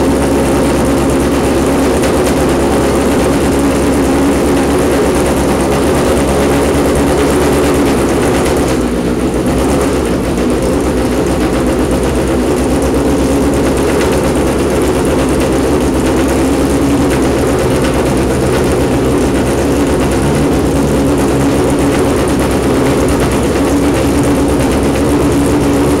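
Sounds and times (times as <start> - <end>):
race car engine running loud: 0.0 - 26.0.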